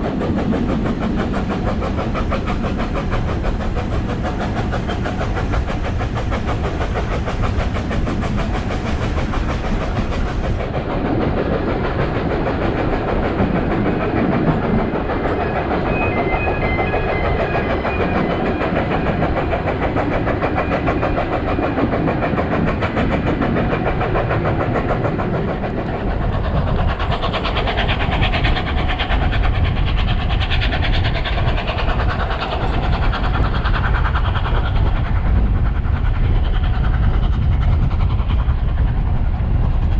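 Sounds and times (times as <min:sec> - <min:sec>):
steam train wheels clattering: 0:00.0 - 0:39.9.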